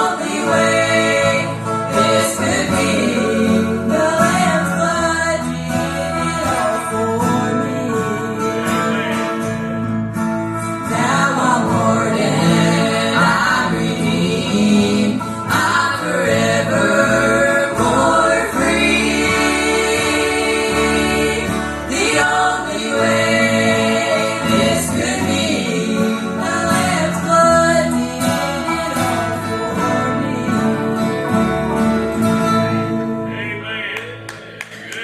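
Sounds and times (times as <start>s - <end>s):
vocal group singing gospel: 0.0s - 10.0s, 10.6s - 35.0s
instrumental accompaniment: 0.0s - 35.0s.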